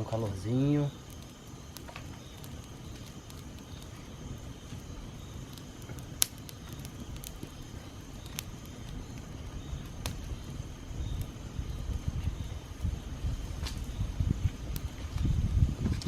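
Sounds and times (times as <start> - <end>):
campfire crackling and popping: 0.0 - 16.0
low steady rumble: 0.0 - 16.0.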